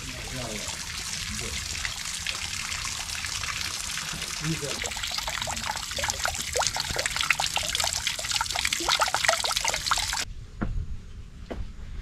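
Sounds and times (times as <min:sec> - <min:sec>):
water trickling into pool: 0:00.0 - 0:10.3.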